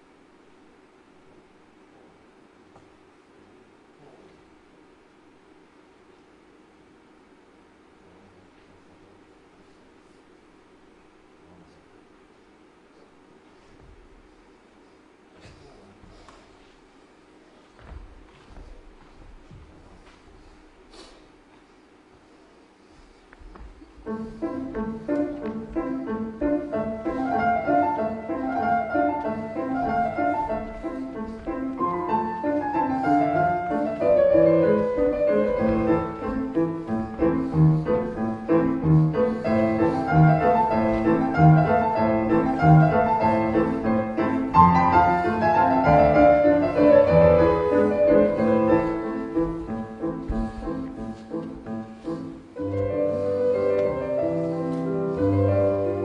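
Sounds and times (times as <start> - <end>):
piano: 0.0 - 56.0.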